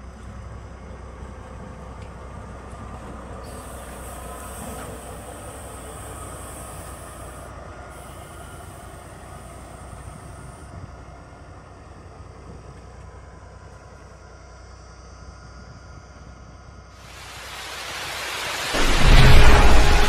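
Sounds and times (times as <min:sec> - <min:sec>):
rail inspection car rumbling: 0:00.0 - 0:20.0.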